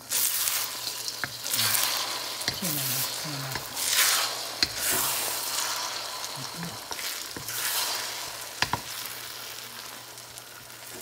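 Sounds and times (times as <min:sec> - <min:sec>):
eggs sizzling in oil: 0:00.0 - 0:11.0
wooden spatula stirring: 0:00.2 - 0:09.2.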